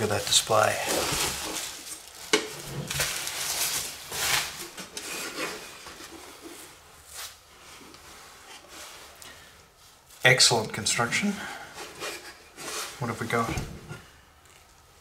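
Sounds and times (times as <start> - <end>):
bubble wrap and foam rustling: 0.0 - 15.0.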